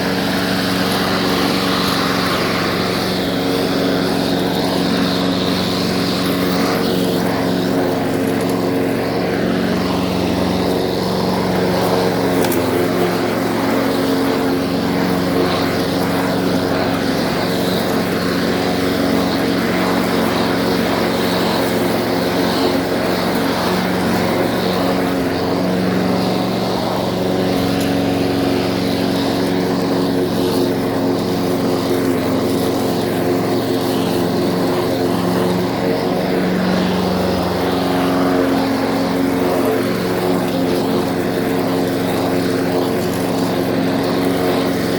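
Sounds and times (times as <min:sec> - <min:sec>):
small lawn mower engine running: 0:00.0 - 0:44.9.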